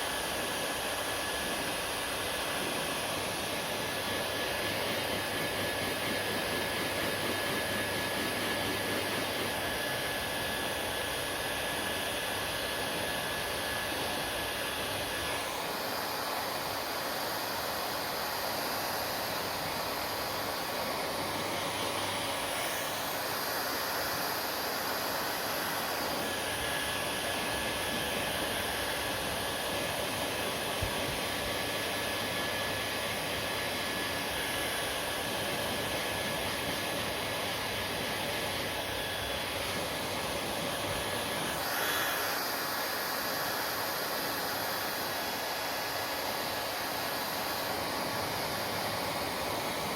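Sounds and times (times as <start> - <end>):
hair dryer whooshing: 0.0 - 49.9.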